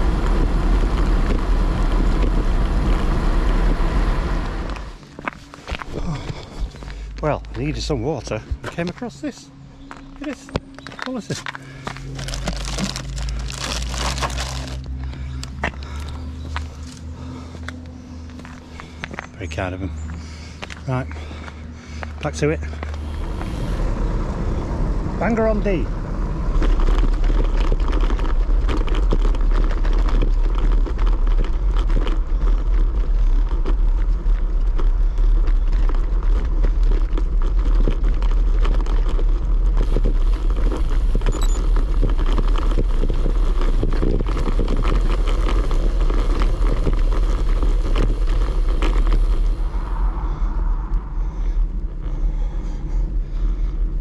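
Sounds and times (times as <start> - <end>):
bicycle rattling over cobblestones: 0.0 - 24.0, 25.2 - 50.4
low rumble of tyres: 0.0 - 54.0.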